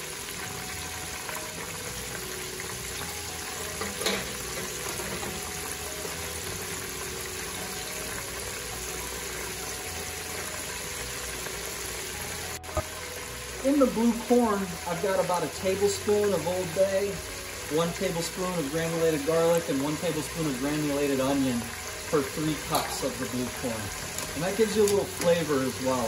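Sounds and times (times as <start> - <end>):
oil sizzling deep-frying: 0.0 - 26.0.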